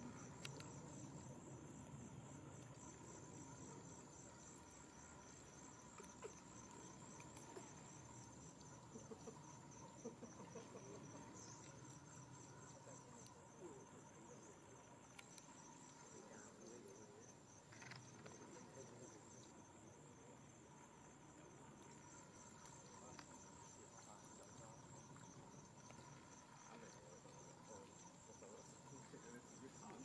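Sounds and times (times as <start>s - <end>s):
faint steady tone: 0.0s - 30.0s
insects chirring: 0.0s - 30.0s.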